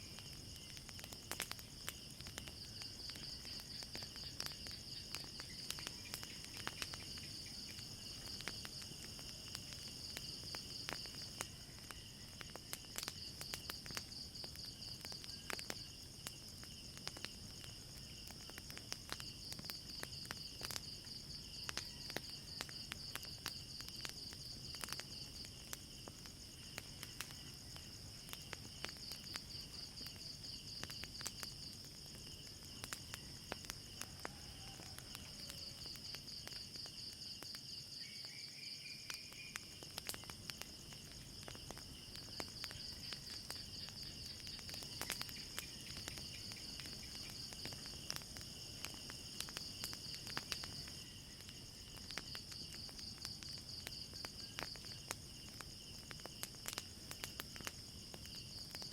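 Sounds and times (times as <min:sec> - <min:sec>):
crickets chirping: 0:00.0 - 0:58.9
wood fire crackling: 0:00.0 - 0:58.9.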